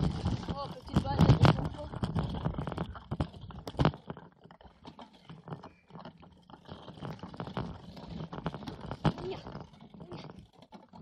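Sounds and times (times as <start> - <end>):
mountain bike rattling and knocking: 0.0 - 11.0.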